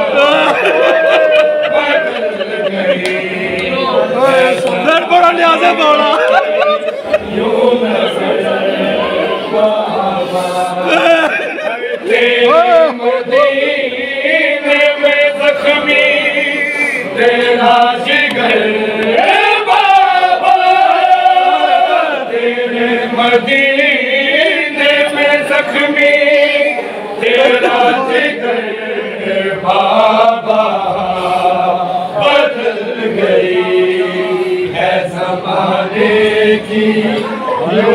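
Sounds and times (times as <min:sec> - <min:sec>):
group of men chanting: 0:00.0 - 0:37.9.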